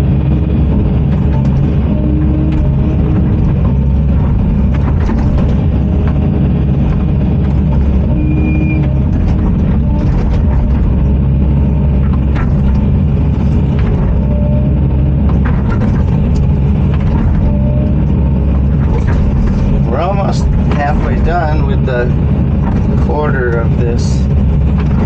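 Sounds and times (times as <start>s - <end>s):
diesel engine running under load: 0.0s - 25.0s
knocks and clanks: 0.0s - 25.0s.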